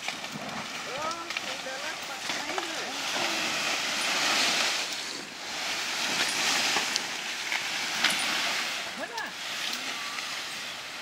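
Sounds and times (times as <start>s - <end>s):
banana tree dragged over ground: 0.0s - 11.0s
sharp crackles: 0.0s - 11.0s.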